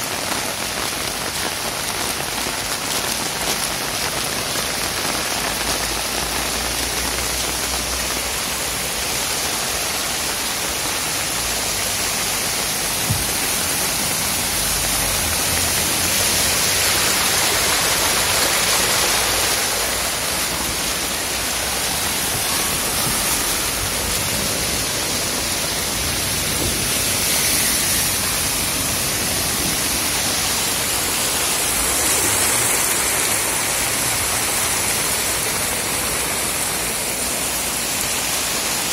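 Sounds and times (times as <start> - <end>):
floodwater rushing: 0.0 - 38.9
heavy rain: 0.0 - 38.9.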